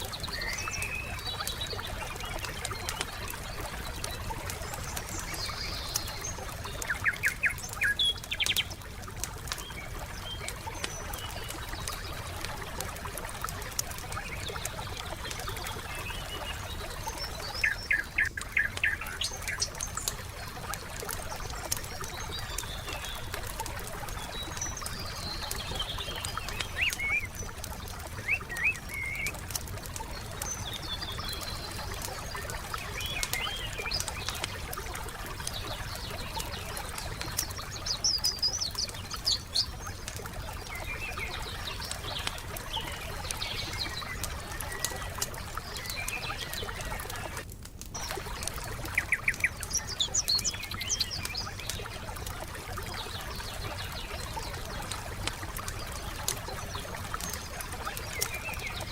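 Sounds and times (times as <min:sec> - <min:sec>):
small birds chirping: 0:00.0 - 0:58.9
wood fire crackling and popping: 0:00.0 - 0:58.9.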